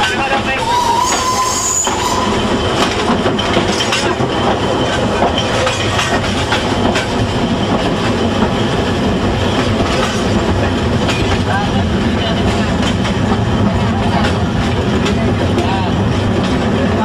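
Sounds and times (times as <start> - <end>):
train carriages rattling: 0.0 - 17.0
train wheels clattering: 0.0 - 17.0.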